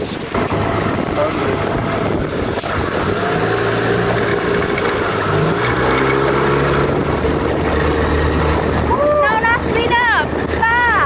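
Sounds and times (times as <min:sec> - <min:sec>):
motorboat engine running: 0:00.0 - 0:11.0
wind on microphone: 0:00.0 - 0:11.0.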